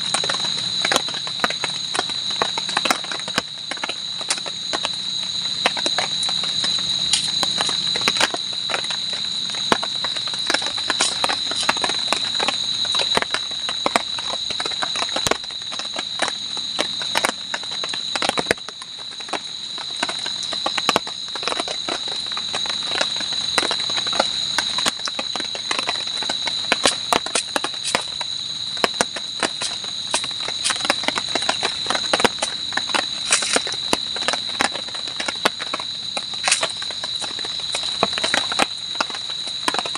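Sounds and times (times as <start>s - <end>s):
night insects droning: 0.0s - 39.9s.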